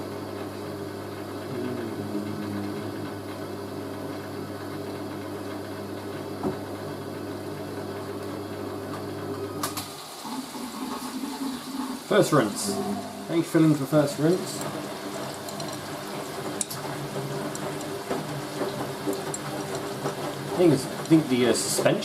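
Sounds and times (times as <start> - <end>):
drain pump grinding hum: 0.0 - 22.0.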